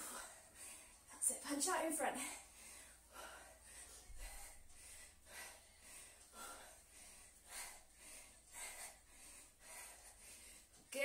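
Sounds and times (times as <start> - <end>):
woman breathing hard: 0.0 - 1.1, 2.1 - 10.9.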